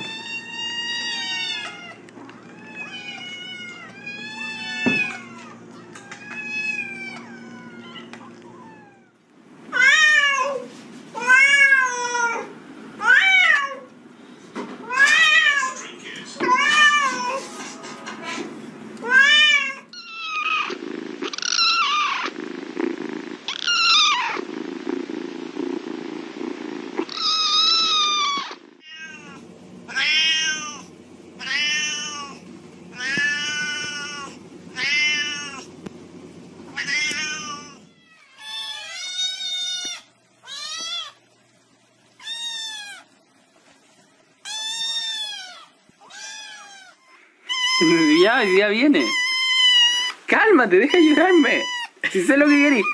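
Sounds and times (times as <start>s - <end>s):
cats meowing: 0.0s - 13.9s, 14.8s - 17.6s, 19.0s - 35.7s, 36.7s - 41.3s, 42.2s - 43.2s, 44.4s - 52.9s
low steady hum: 0.0s - 52.9s.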